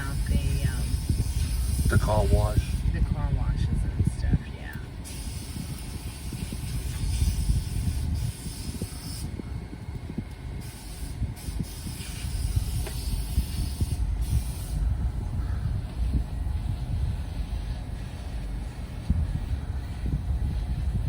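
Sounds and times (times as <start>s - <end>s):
compressed-air guns hissing: 0.0s - 3.5s, 5.0s - 9.4s, 10.5s - 21.0s
low rumble: 0.0s - 21.0s.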